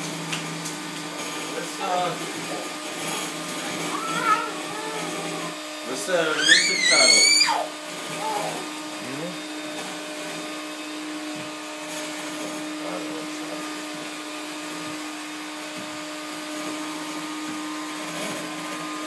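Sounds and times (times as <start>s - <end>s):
electric fan motor whirring: 0.6s - 19.0s.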